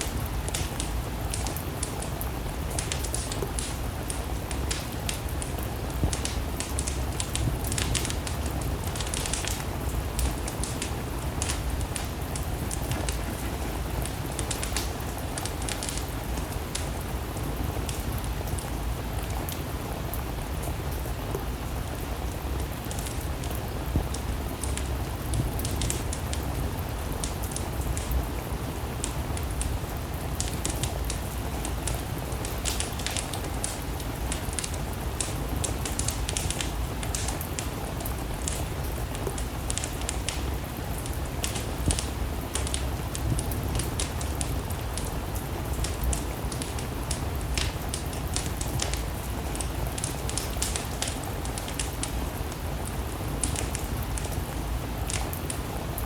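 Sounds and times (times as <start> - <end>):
steady rain: 0.0 - 56.0
wood fire crackling: 0.0 - 56.0.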